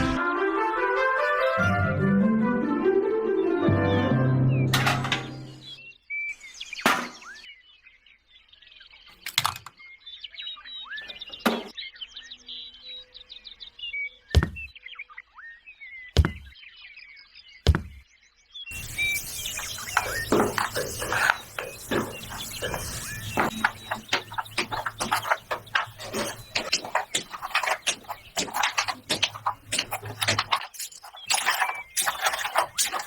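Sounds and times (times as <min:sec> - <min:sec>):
small birds chirping: 0:05.2 - 0:33.0.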